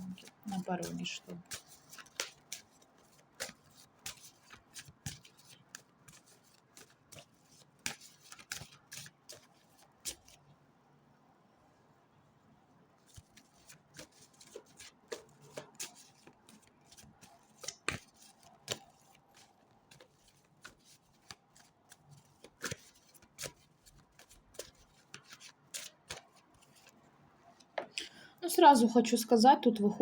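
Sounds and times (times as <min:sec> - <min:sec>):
cards being shuffled: 0:00.0 - 0:10.4, 0:13.1 - 0:27.0.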